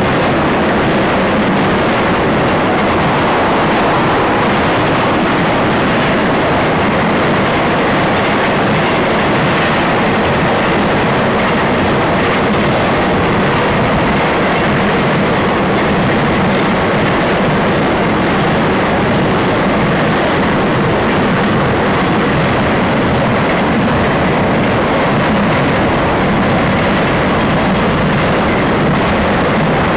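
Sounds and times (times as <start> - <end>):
freight train wheels on track: 0.0 - 29.9.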